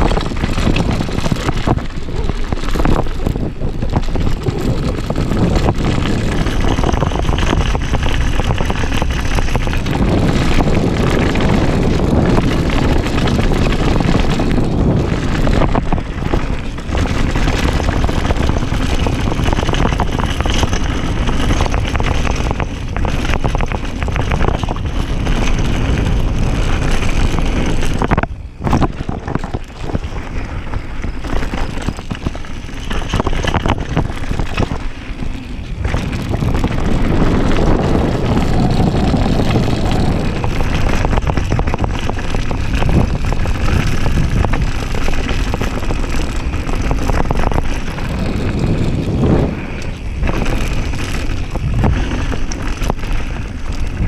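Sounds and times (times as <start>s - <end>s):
bike knocking and rattling: 0.0s - 54.0s
tyres on gravel: 0.0s - 54.0s
wind on microphone: 0.0s - 54.0s.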